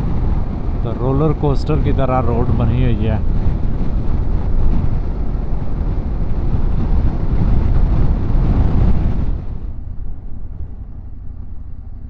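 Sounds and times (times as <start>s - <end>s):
motorcycle engine rumble: 0.0s - 12.0s
tyres on road: 0.0s - 12.0s
wind rushing over microphone: 0.0s - 12.0s.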